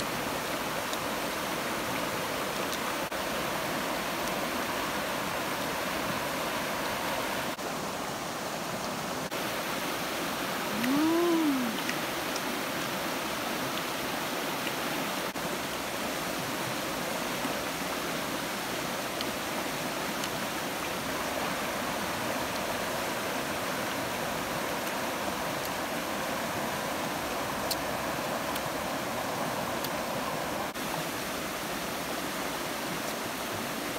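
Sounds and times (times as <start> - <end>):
river rushing over rapids: 0.0 - 33.9.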